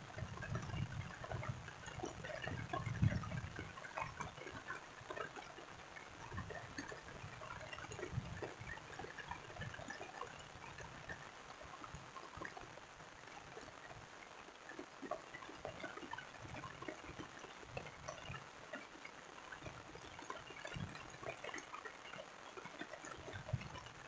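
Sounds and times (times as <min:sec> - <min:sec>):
rain falling: 0:00.0 - 0:24.0
raindrops ticking and splashing: 0:00.0 - 0:24.0.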